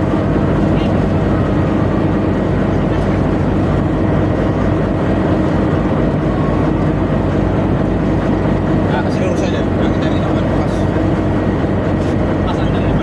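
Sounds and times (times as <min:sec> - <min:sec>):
tugboat engine droning: 0:00.0 - 0:13.0.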